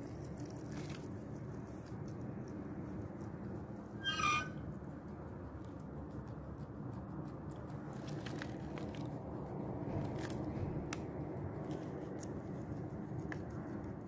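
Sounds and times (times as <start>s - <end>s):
guinea pig crunching food: 0.0s - 4.0s, 4.6s - 14.0s.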